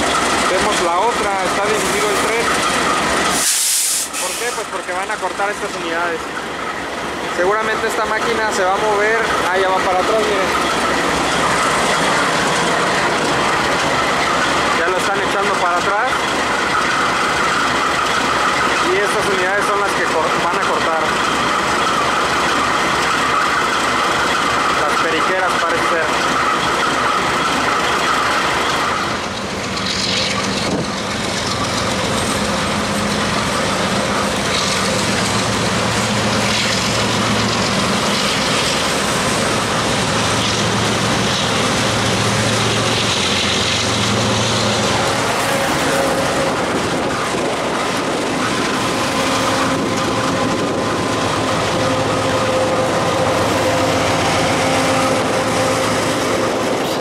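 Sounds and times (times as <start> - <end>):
locomotive engine hum: 0.0 - 57.0
train rolling noise: 0.0 - 57.0.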